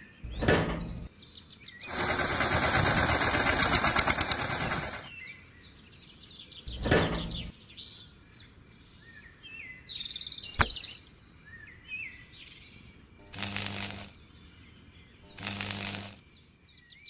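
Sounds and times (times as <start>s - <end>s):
small birds chirping: 0.0s - 2.4s, 4.1s - 17.0s.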